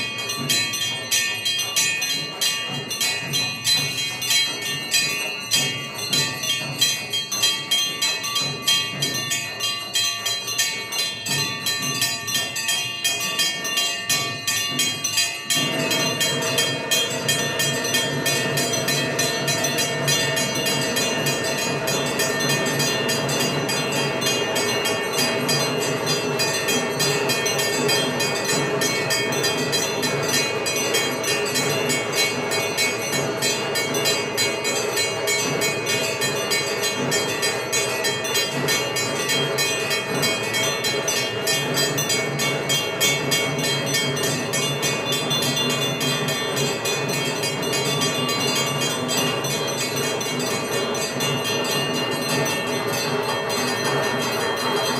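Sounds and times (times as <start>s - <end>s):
bells ringing rapidly: 0.0s - 54.9s.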